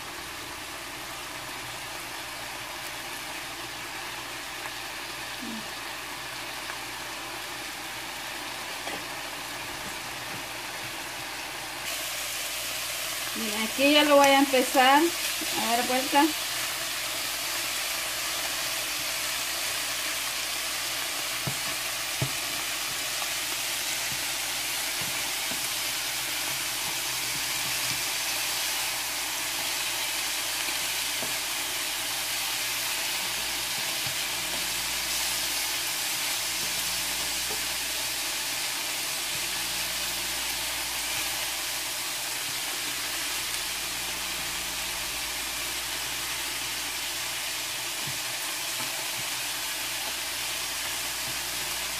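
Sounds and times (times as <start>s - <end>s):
meat sizzling in oil: 0.0s - 51.9s.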